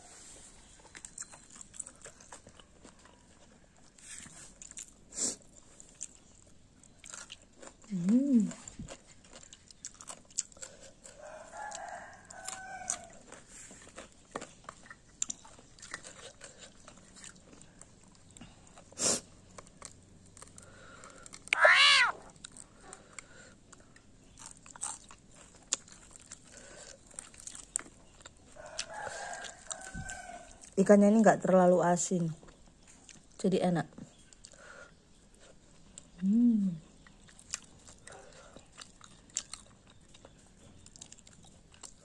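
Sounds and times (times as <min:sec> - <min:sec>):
chewing and crunching food: 0:00.0 - 0:42.0.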